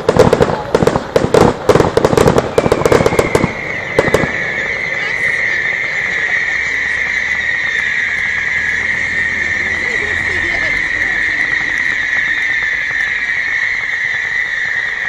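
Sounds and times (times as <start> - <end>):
fireworks crackling bangs: 0.0 - 15.0
high-pitched whistling hiss: 2.3 - 15.0.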